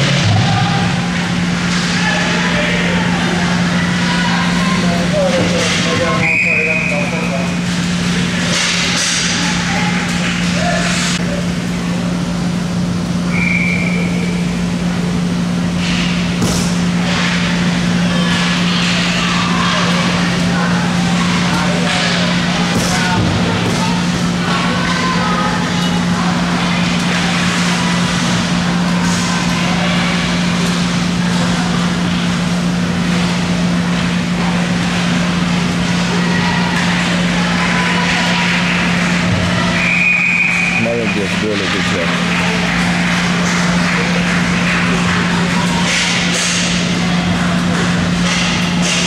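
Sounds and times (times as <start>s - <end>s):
constant low hum: 0.0s - 49.0s
noisy wash: 0.0s - 49.0s.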